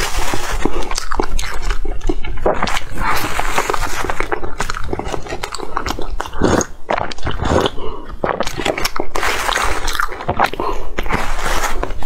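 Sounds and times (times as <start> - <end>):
chewing soft bread: 0.0 - 12.0.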